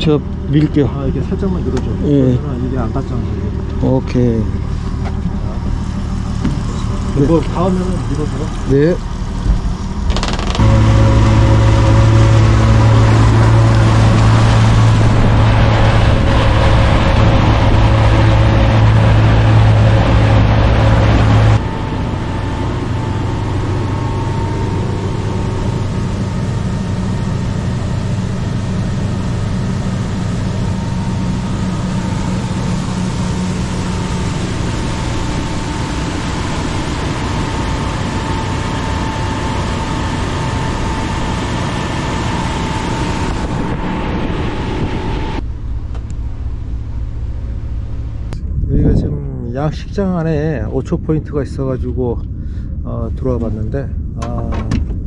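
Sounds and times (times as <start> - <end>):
motorboat engine running: 0.0 - 51.0.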